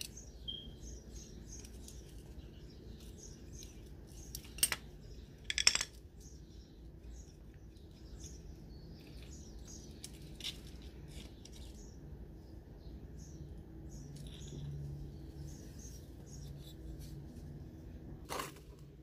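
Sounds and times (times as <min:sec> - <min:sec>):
birds chirping: 0:00.0 - 0:18.2.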